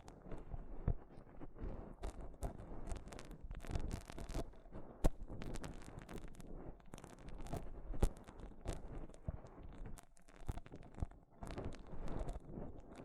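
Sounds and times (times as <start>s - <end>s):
crackling and rubbing on microphone: 0.0s - 13.0s
small sharp taps and clicks: 2.0s - 13.0s.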